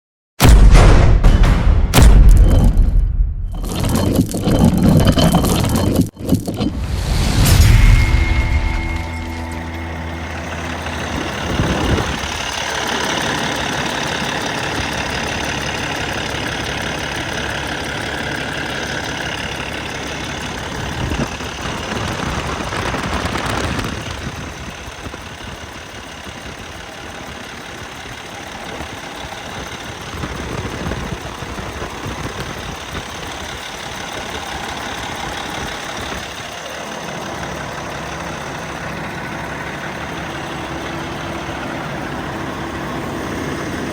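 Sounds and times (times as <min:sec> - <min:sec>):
diesel engine running: 0:01.2 - 0:43.9.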